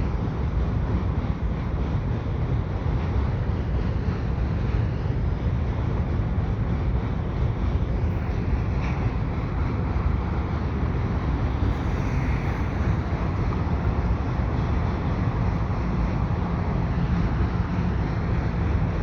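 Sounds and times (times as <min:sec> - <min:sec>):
freight train rumbling over bridge: 0:00.0 - 0:19.0
wind buffeting microphone: 0:00.0 - 0:19.0.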